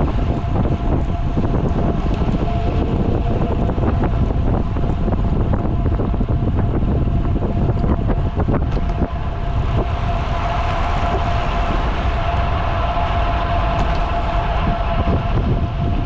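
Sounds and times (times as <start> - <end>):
faint steady whine: 0.0 - 16.0
wind buffeting microphone: 0.0 - 16.0.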